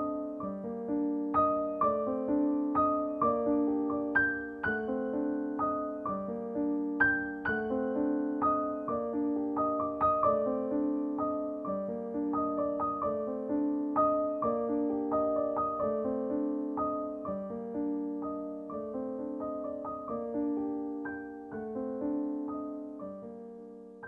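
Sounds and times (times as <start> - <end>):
calm solo piano music: 0.0 - 24.0.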